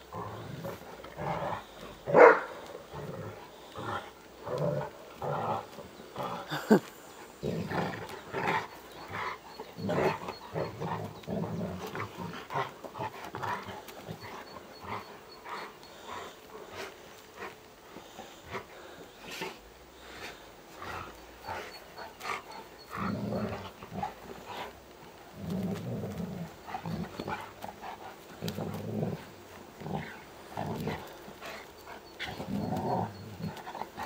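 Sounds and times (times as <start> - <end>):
dogs growling and grumbling: 0.0 - 34.0.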